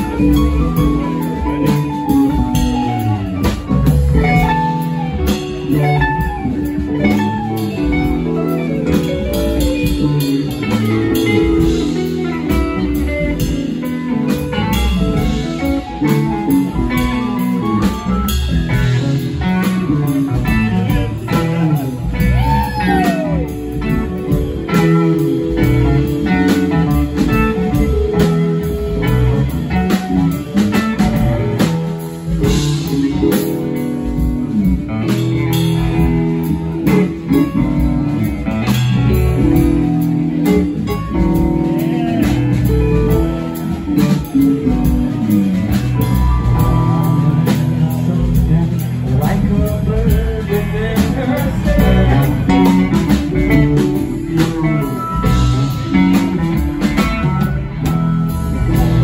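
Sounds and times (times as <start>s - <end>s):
drum kit: 0.0s - 59.0s
electric guitar: 0.0s - 59.0s
keyboard: 0.0s - 59.0s.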